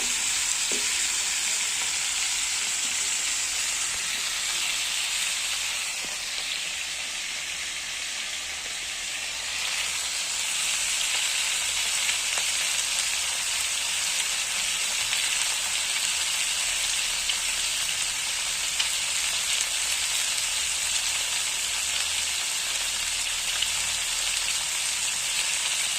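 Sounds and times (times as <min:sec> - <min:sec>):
fish sizzling in hot oil: 0:00.0 - 0:25.9.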